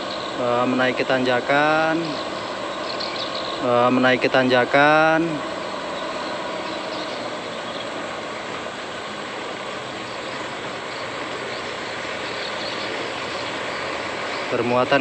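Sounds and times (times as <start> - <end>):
diesel truck engine labouring: 0.0 - 15.0.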